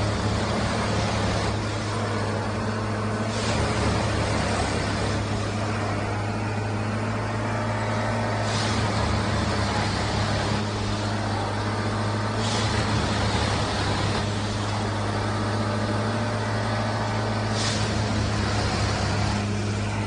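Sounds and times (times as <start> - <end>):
hiss: 0.0 - 6.4, 7.5 - 20.0
diesel engine running: 0.0 - 20.0.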